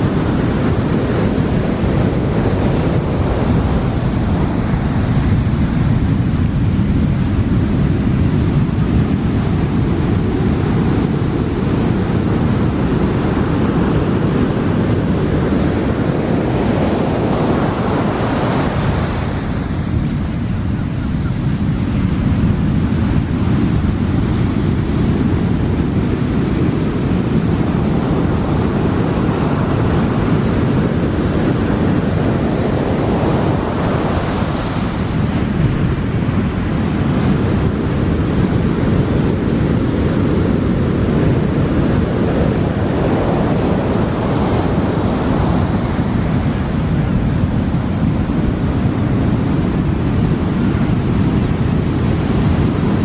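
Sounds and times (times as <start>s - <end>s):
ocean surf on beach: 0.0s - 53.0s
wind buffeting microphone: 0.0s - 53.0s.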